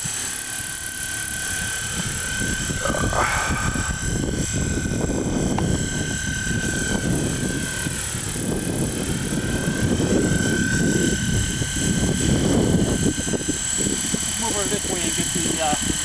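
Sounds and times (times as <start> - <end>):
model helicopter whine: 0.0 - 16.0
wind buffeting microphone: 0.0 - 16.0.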